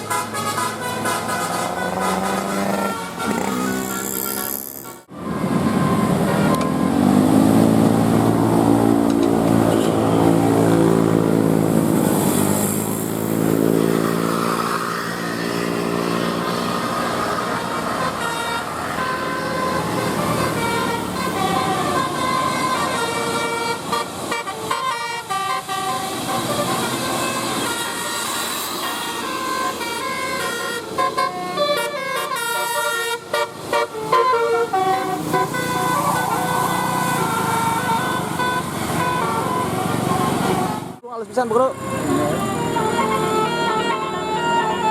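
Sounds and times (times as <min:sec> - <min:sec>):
bus horn playing tune: 0:00.0 - 0:08.2, 0:08.9 - 0:44.9
bus engine passing: 0:00.0 - 0:44.9.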